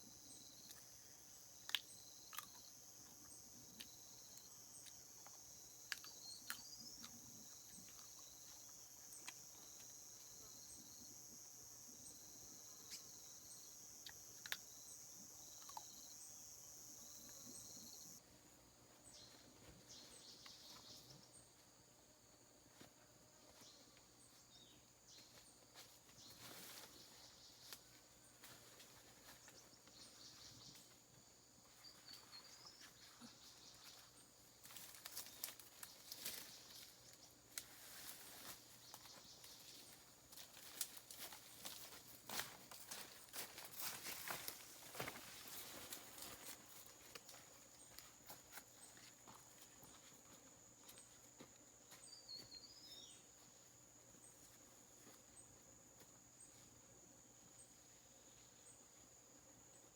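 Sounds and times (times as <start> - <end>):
weak insect calls: 0.0 - 18.2, 23.6 - 59.9
insects buzzing: 0.0 - 59.9.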